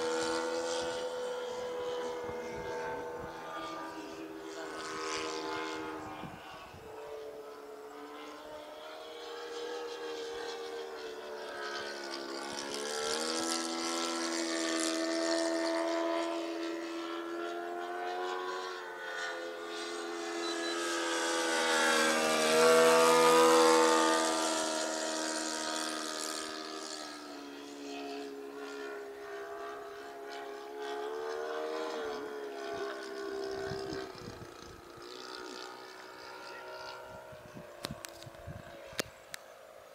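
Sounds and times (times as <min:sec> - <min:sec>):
model plane engine buzzing: 0:00.0 - 0:39.9.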